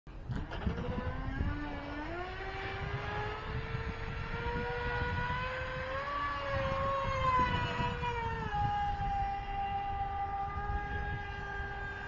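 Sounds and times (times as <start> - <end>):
electric speedboat motor whining: 0.3 - 12.0.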